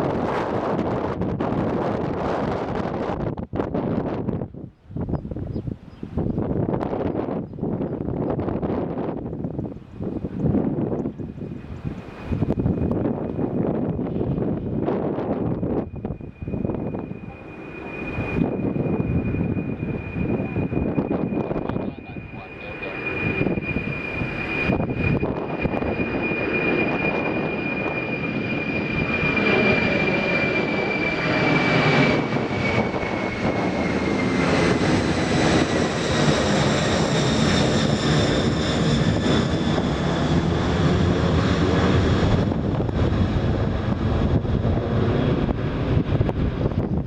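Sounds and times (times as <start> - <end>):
jet engines whining: 0.0 - 47.0.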